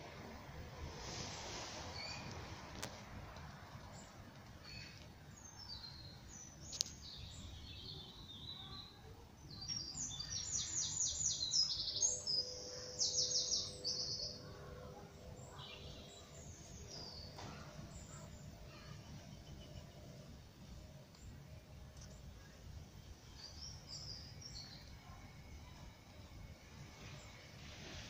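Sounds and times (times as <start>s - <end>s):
low outdoor rumble: 0.0s - 28.0s
songbird singing: 1.9s - 3.0s, 3.7s - 27.4s.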